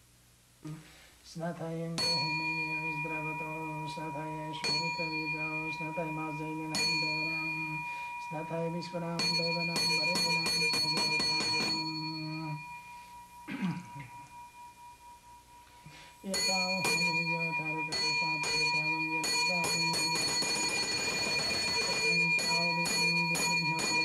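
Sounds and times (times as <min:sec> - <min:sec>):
ringing bell-like metal strikes: 0:02.0 - 0:24.0.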